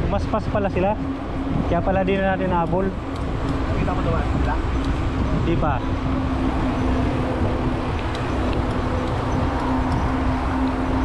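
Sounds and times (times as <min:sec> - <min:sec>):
bike tyre rolling noise: 0:00.0 - 0:11.0
steady low hum: 0:00.0 - 0:11.0
wind noise on microphone: 0:00.0 - 0:11.0.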